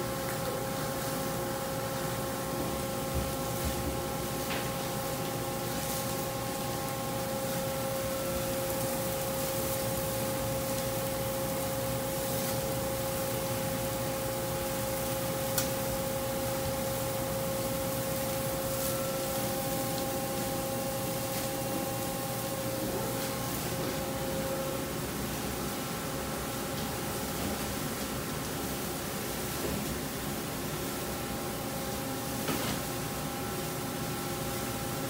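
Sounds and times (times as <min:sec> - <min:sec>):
burger patties sizzling on grill: 0:00.0 - 0:35.0
exhaust hood ventilation hum: 0:00.0 - 0:35.0.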